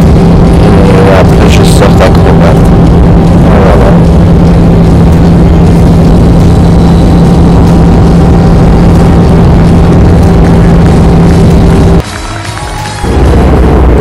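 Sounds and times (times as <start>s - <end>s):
distorted loudspeaker music: 0.0s - 14.0s
steady low droning note: 0.0s - 14.0s.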